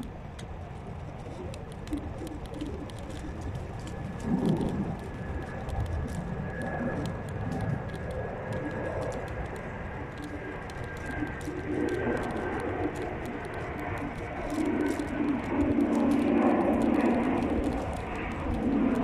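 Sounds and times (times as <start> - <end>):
wheels rumbling and rattling: 0.0 - 19.0.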